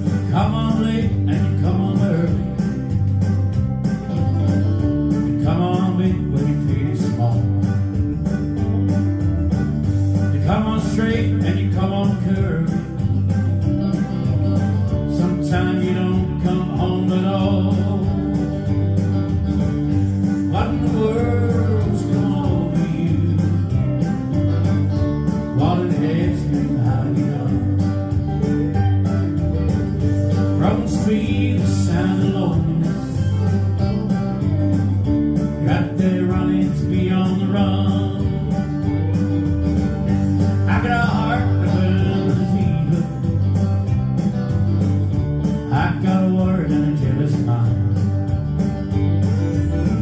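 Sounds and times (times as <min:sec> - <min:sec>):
country band playing: 0:00.0 - 0:50.0
melodic lead guitar line: 0:00.0 - 0:50.0.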